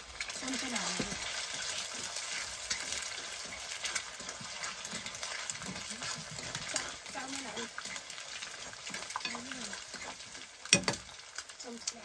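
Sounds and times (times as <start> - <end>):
eggs sizzling in frying pan: 0.0 - 12.0
metal spoon scraping pan: 1.0 - 11.2.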